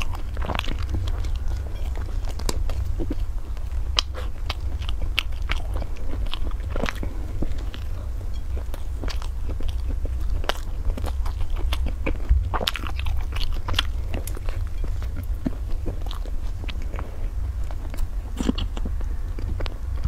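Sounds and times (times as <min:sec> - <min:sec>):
low hum: 0:00.0 - 0:20.0
wet chewing sounds: 0:00.0 - 0:20.0.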